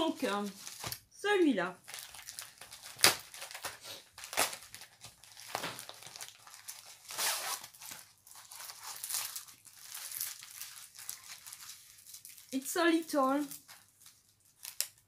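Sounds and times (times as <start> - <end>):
paper and plastic tearing and crinkling: 0.0 - 1.1, 1.8 - 15.0.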